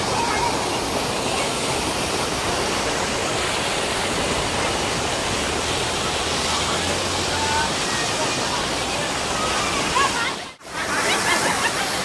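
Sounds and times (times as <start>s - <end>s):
water rushing down a cascade: 0.0s - 12.0s.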